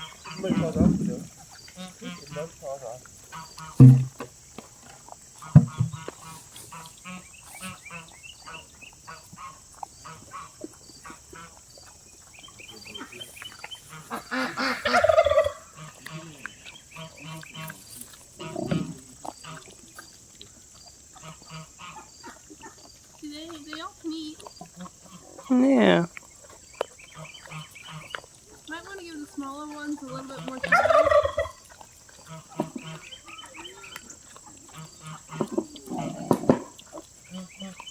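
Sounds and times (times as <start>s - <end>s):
farm animals calling: 0.0s - 37.9s.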